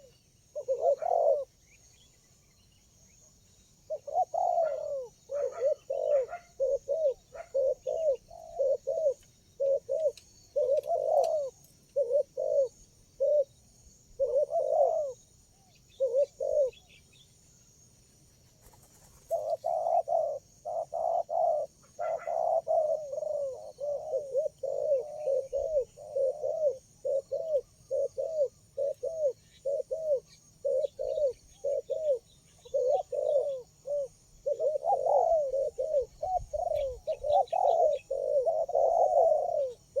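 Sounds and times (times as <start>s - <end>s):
doves cooing: 0.0s - 1.6s, 3.9s - 15.2s, 15.9s - 16.9s, 18.6s - 40.0s.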